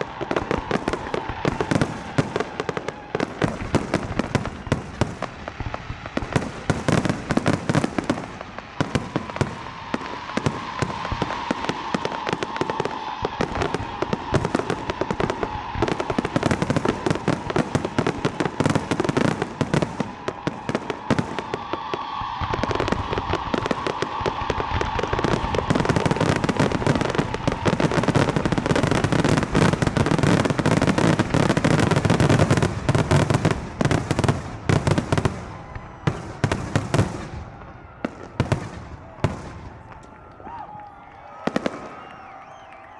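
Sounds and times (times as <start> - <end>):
fireworks booms and crackling: 0.0 - 42.9.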